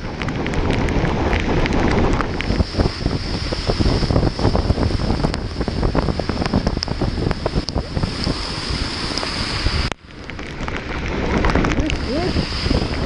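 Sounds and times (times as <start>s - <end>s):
raindrops ticking on microphone: 0.0s - 13.0s
wind and rain on microphone: 0.0s - 13.0s.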